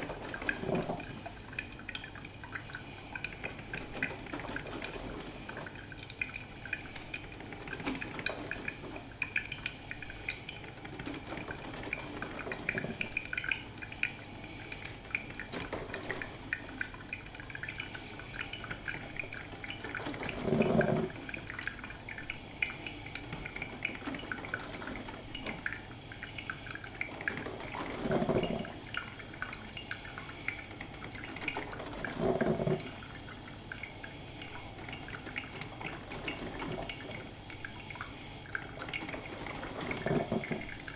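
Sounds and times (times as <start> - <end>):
coffee machine dripping: 0.0 - 40.9
coffee machine gurgles: 0.0 - 40.9.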